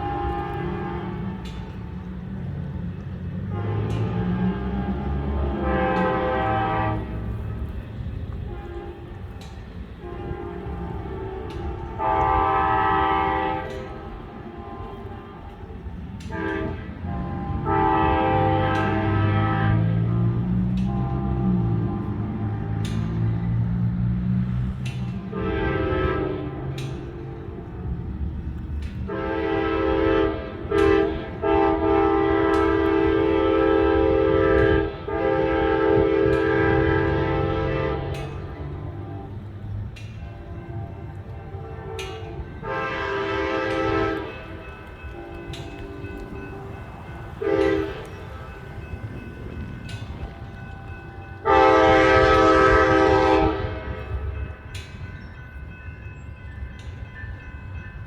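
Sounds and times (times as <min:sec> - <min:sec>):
locomotive air horn blasts: 0:00.0 - 0:02.5, 0:03.3 - 0:28.3, 0:29.1 - 0:49.0, 0:49.6 - 0:54.6
low train rumble: 0:00.0 - 0:58.0.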